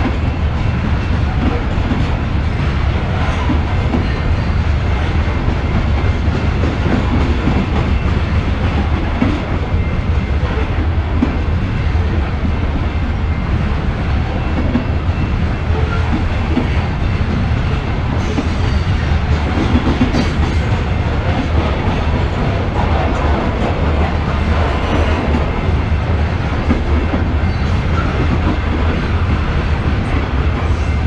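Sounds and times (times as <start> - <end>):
freight train wheels on rails: 0.0 - 31.0.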